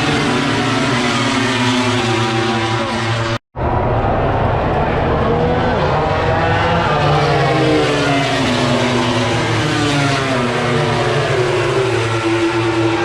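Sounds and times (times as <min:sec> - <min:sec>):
racing motorcycle engines passing: 0:00.0 - 0:03.4, 0:04.5 - 0:13.0.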